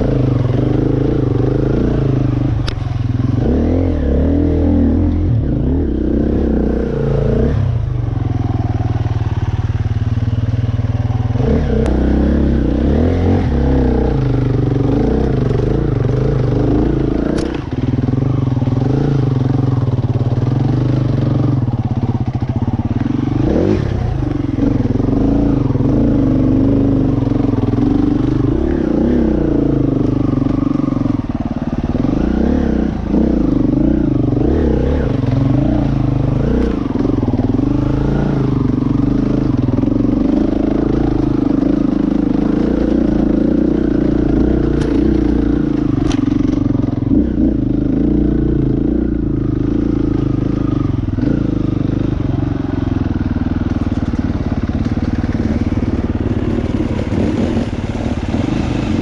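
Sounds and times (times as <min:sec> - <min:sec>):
dirt bike engine revving: 0:00.0 - 0:52.8, 0:53.6 - 0:59.0.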